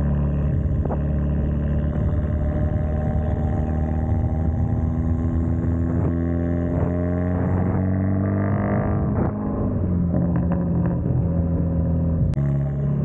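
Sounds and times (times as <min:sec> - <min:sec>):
car exhaust drone: 0:00.0 - 0:13.0.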